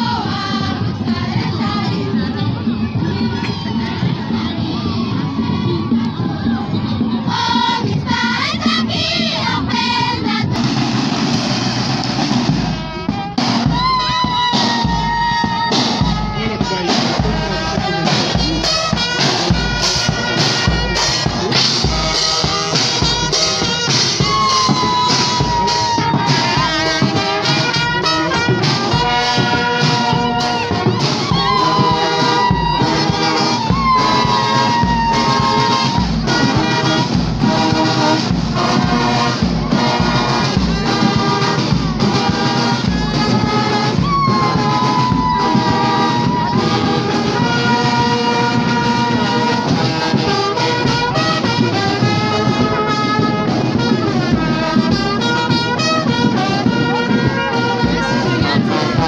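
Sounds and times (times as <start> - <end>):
brass marching band playing: 0.0 - 59.0
steady drum beat: 0.0 - 59.0.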